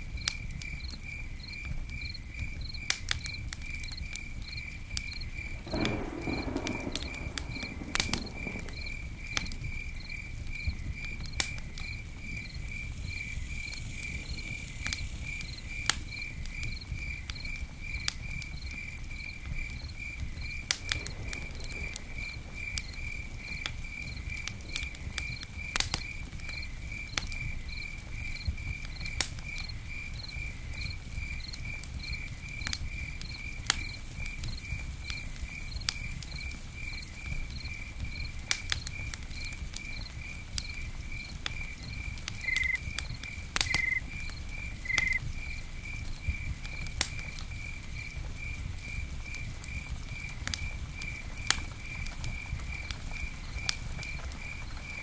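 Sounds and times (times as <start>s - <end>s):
campfire crackling and popping: 0.0s - 55.0s
cricket chirping: 0.0s - 55.0s
low rumble of burning: 0.0s - 55.0s.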